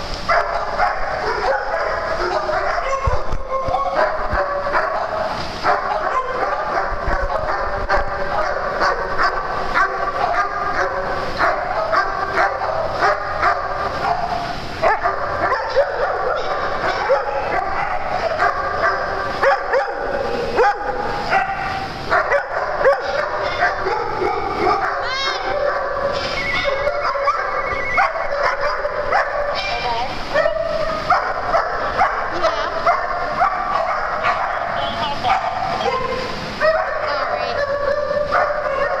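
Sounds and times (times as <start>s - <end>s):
dogs barking and yipping: 0.0s - 39.0s.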